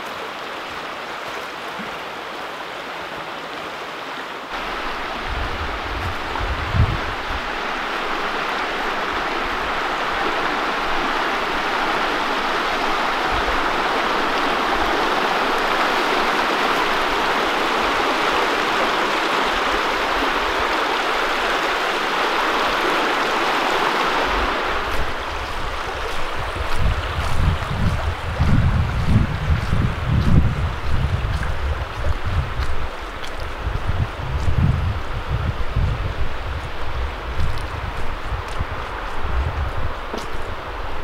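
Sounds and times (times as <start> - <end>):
brook rushing over rocks: 4.5 - 41.0
wind rumble on microphone: 4.6 - 21.9, 23.6 - 41.0.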